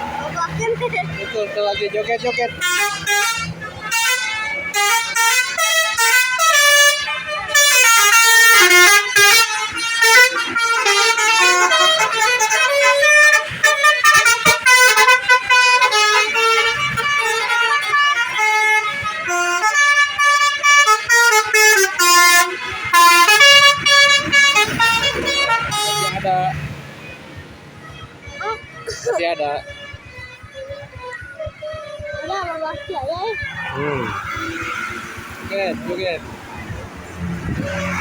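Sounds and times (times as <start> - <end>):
bus horns playing a tune: 0.0 - 38.0.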